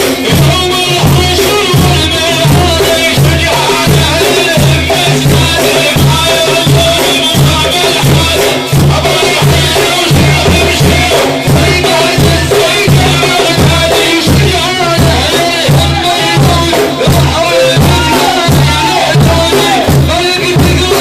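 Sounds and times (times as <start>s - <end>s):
frame drums beating: 0.0s - 21.0s
voices chanting: 0.0s - 21.0s.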